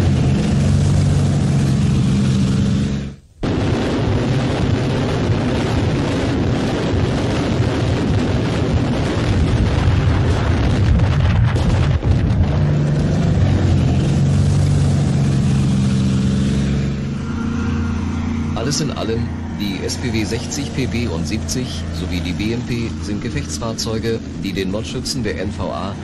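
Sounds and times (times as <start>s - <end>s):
low engine drone: 0.0s - 26.0s
rocket salvo roar: 0.0s - 26.0s.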